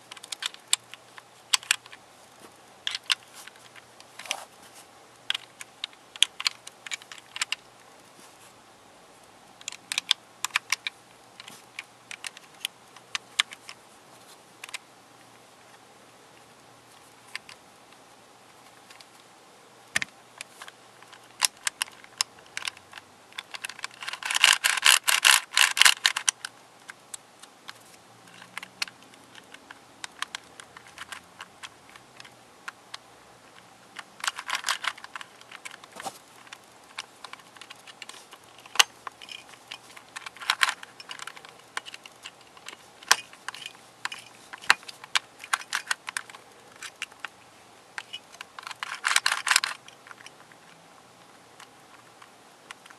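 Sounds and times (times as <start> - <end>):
plastic puzzle pieces clicking: 0.0 - 2.0, 2.8 - 4.4, 5.3 - 7.6, 9.6 - 13.8, 17.2 - 17.6, 20.0 - 47.4, 48.0 - 52.9.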